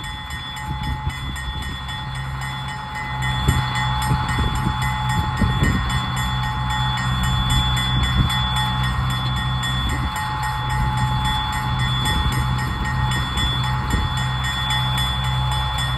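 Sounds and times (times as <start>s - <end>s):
diesel locomotive engine drone: 0.0s - 15.9s
steady high whine: 0.0s - 15.9s
train clanks: 0.0s - 15.9s.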